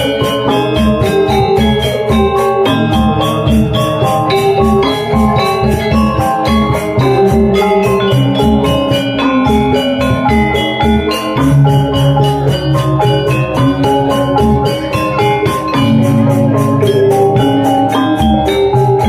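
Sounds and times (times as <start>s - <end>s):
metallophones ringing in fast pulse: 0.0s - 19.0s.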